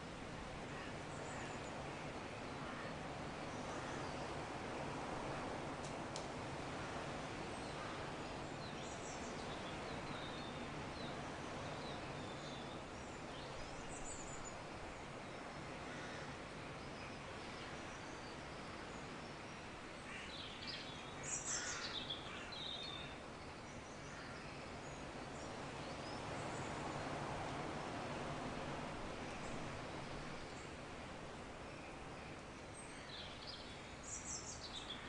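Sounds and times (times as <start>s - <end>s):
soft steady hiss: 0.0s - 35.0s.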